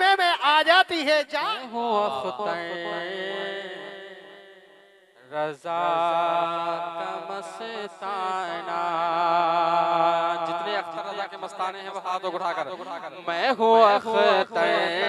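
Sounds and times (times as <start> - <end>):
man singing through a microphone: 0.0 - 4.1, 5.2 - 15.0.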